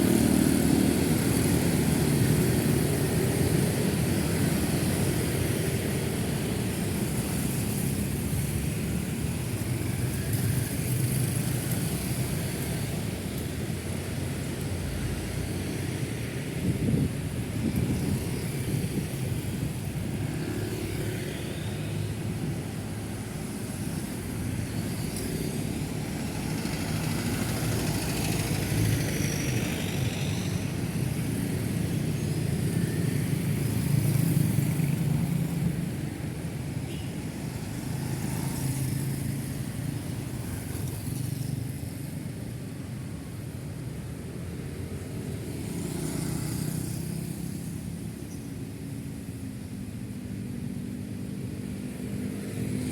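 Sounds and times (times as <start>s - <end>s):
road traffic driving past: 0.0s - 52.9s.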